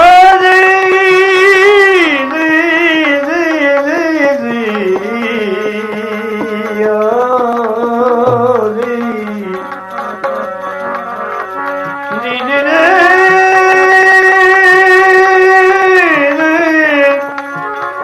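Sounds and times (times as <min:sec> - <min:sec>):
devotional song melody: 0:00.0 - 0:18.0
tabla beat: 0:00.0 - 0:18.0.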